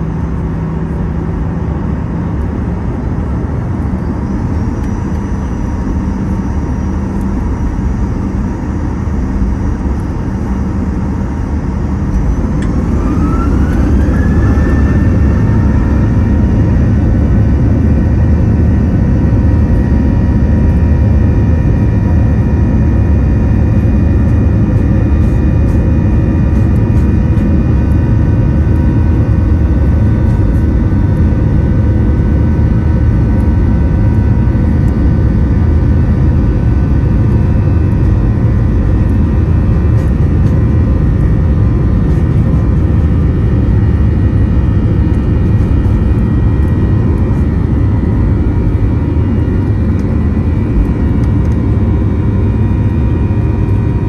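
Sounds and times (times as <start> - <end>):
engine rumble: 0.0 - 54.0
jet engines whining: 0.0 - 54.0.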